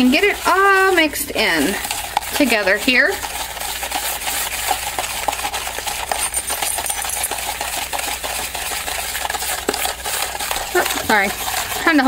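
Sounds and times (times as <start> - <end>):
whisk clicking on plastic tub: 0.0 - 12.0
whisk scraping salt grains: 0.0 - 12.0.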